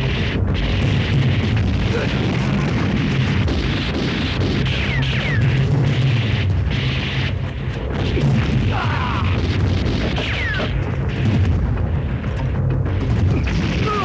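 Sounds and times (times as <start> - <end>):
gunfire and blasts: 0.0 - 14.0.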